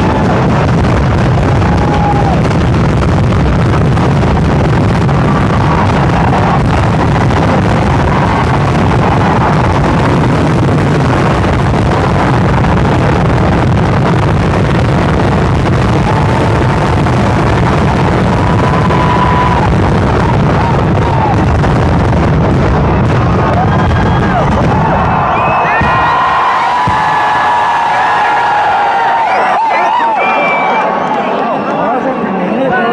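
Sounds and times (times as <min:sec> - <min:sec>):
firecracker explosions: 0:00.0 - 0:31.1.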